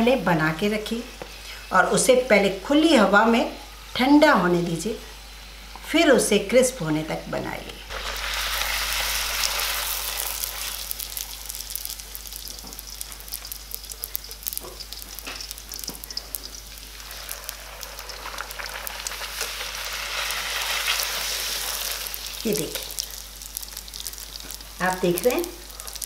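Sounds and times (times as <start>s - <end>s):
dough deep-frying in hot oil: 0.0s - 26.0s.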